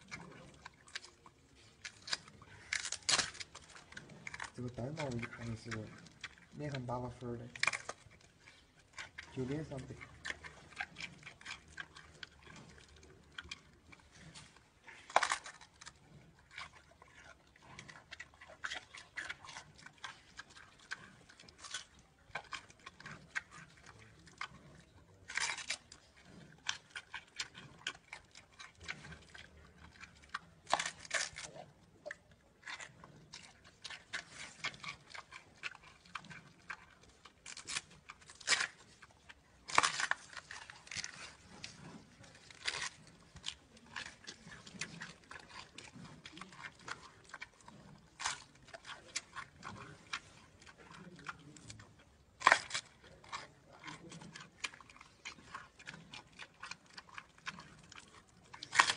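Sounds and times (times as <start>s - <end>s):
panda crunching bamboo: 0.0s - 58.9s.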